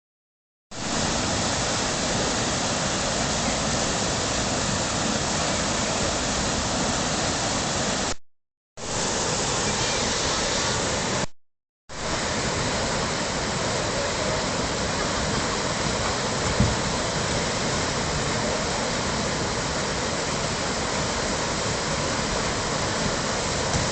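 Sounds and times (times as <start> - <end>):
creek rushing: 0.8 - 8.2, 8.8 - 11.3, 12.0 - 23.9.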